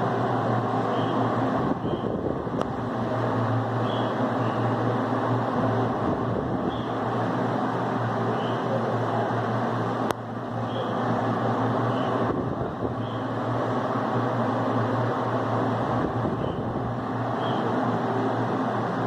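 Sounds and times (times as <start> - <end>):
desk fan running: 0.0 - 19.0.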